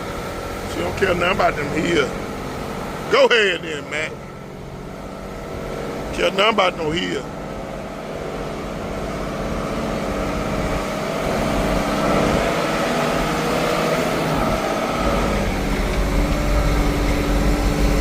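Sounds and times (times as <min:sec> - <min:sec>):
diesel truck engine labouring uphill: 0:00.0 - 0:18.0.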